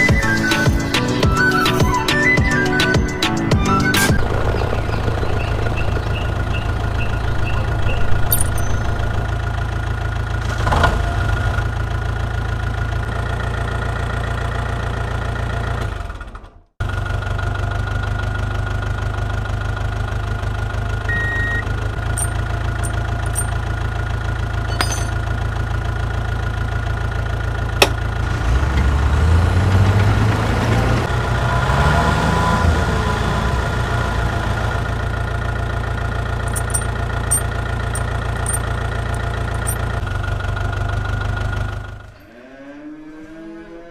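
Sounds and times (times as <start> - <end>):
small tractor motor humming: 0.0 - 43.8.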